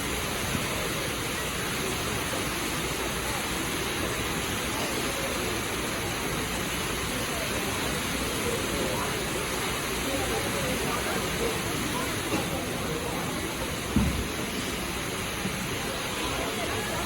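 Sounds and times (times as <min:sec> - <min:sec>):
water pouring and splashing: 0:00.0 - 0:17.0.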